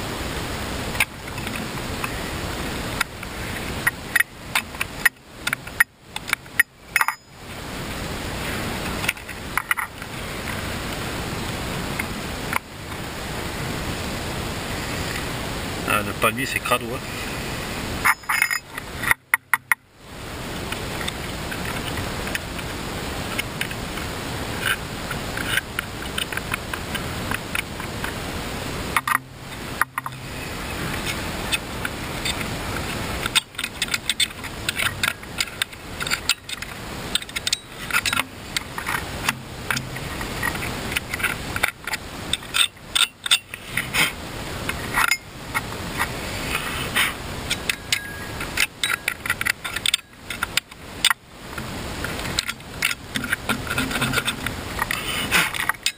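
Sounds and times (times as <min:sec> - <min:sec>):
steady background rush: 0:00.0 - 0:55.9.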